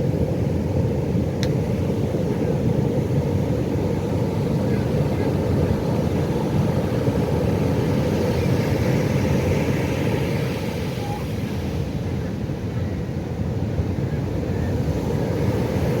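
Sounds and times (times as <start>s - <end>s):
surf breaking on shore: 1.4s - 16.0s.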